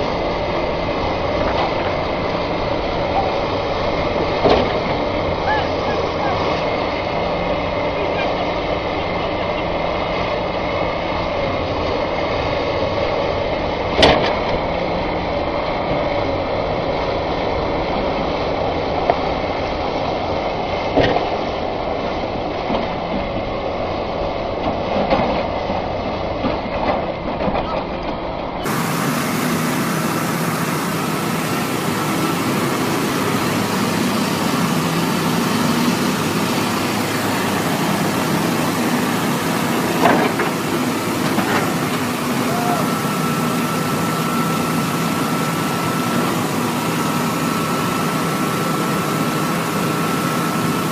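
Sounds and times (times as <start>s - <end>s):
heavy vehicle engine running: 0.0s - 50.9s.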